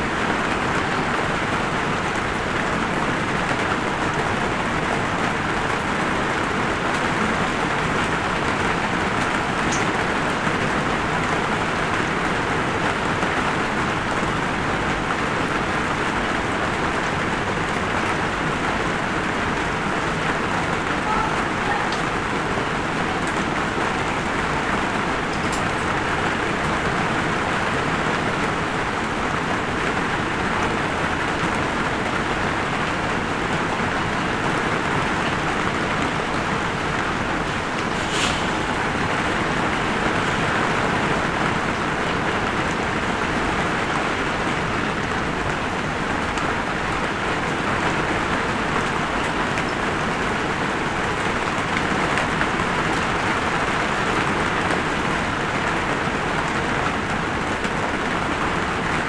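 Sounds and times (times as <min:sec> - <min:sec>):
light rain hiss: 0:00.0 - 0:59.0.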